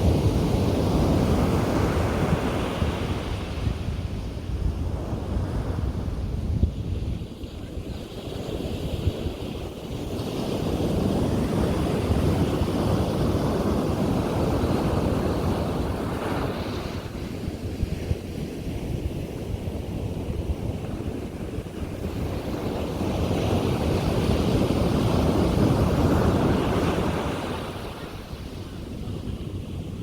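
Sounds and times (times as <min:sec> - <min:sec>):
ocean waves breaking on beach: 0:00.0 - 0:30.0
wind buffeting microphone: 0:00.0 - 0:30.0.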